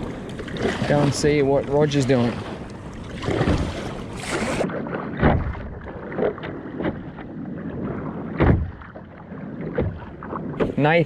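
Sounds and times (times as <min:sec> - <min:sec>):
paddle strokes splashing water: 0:00.0 - 0:11.0.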